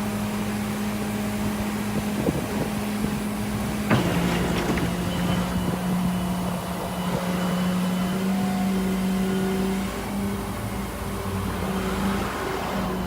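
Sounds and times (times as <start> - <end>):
vehicle engine droning: 1.4 - 13.0.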